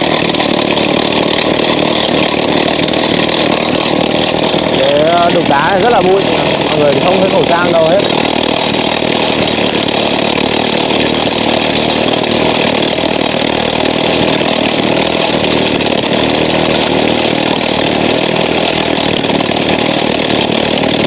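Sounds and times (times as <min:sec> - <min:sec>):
power tool cracking rock: 0:00.0 - 0:21.0.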